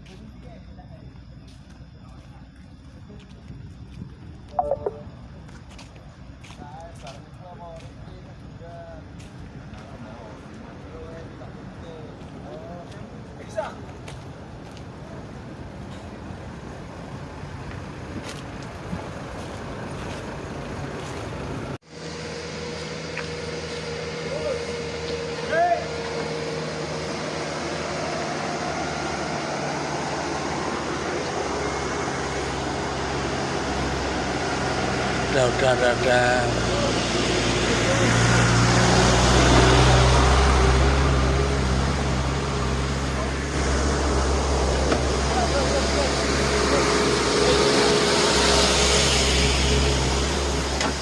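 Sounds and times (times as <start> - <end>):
traffic engines rumbling: 0.0 - 51.0
road noise rushing: 8.4 - 51.0.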